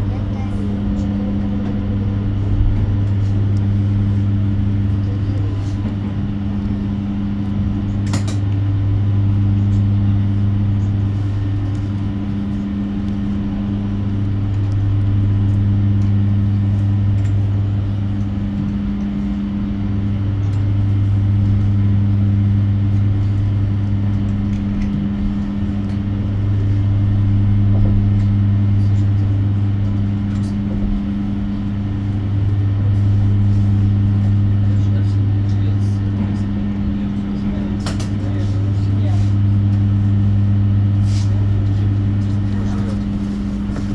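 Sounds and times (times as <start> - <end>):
electric bus cabin hum: 0.0 - 43.9.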